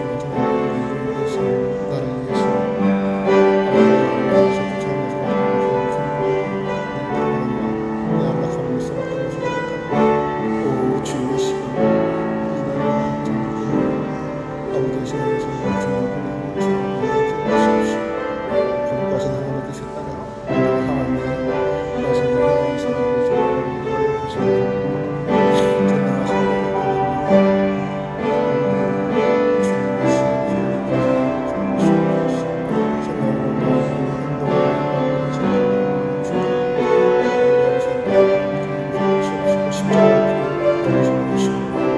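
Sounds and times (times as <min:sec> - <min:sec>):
slow piano music: 0:00.0 - 0:41.9.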